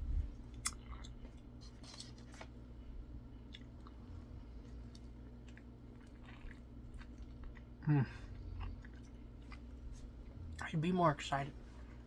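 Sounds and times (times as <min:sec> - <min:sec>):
person chewing crispy food: 0:00.3 - 0:02.6, 0:03.2 - 0:10.6.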